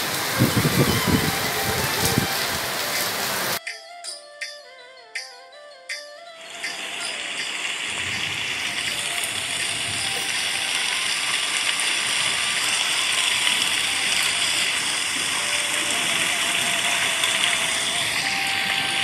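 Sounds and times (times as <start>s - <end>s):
heavy rain: 0.0s - 3.6s, 6.5s - 19.0s.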